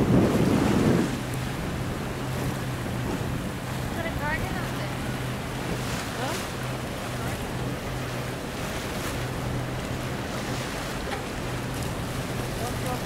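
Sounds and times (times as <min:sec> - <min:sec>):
boat engine drone: 0:00.0 - 0:13.0
choppy sea water: 0:00.0 - 0:13.0
wind buffeting microphone: 0:00.0 - 0:13.0.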